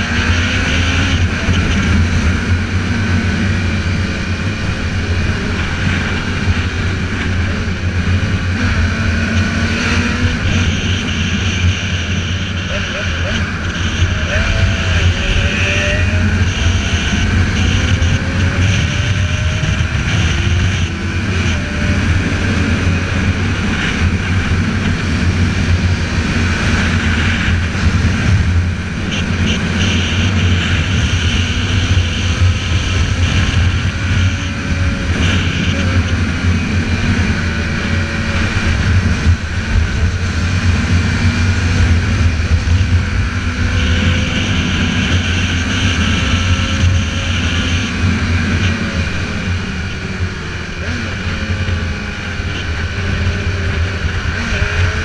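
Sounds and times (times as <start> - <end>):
motorcycle engine: 0.0 - 55.0
wind rushing over microphone: 0.0 - 55.0.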